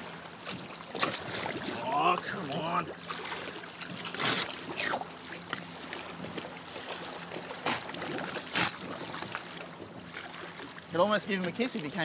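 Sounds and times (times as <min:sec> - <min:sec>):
shark splashing water: 0:00.0 - 0:10.9.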